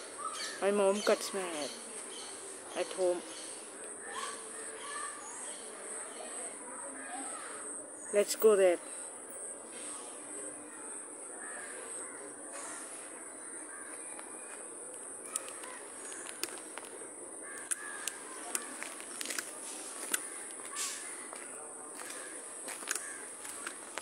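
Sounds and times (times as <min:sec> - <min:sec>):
birds calling: 0:00.0 - 0:09.1, 0:09.7 - 0:24.0.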